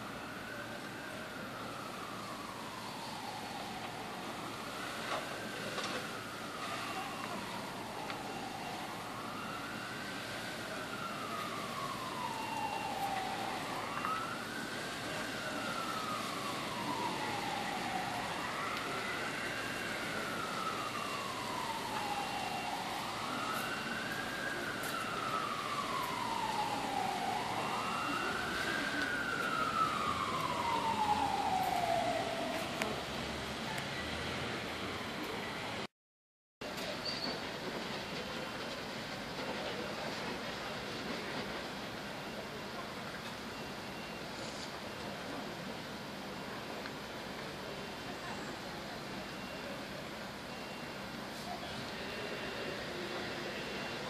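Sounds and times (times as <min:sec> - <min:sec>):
fire engine siren wailing: 0:00.0 - 0:35.9, 0:36.7 - 0:54.0.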